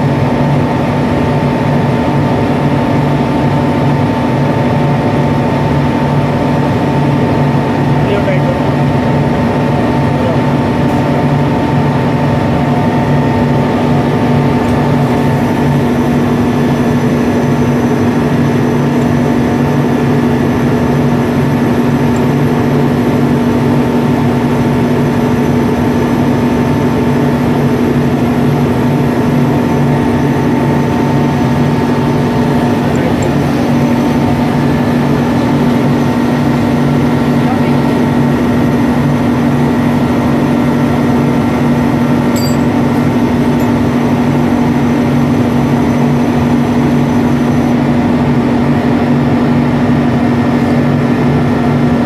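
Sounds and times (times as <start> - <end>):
heavy machine droning: 0.0 - 52.0.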